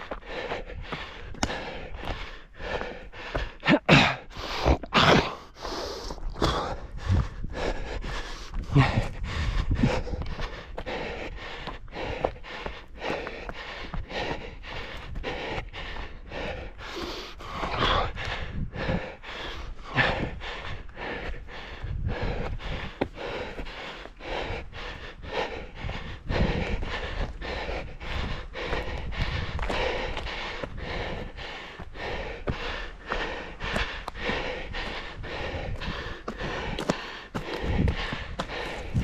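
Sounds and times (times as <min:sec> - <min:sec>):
running footfalls: 0:00.0 - 0:03.7, 0:05.6 - 0:39.0
runner breathing hard: 0:00.0 - 0:39.0.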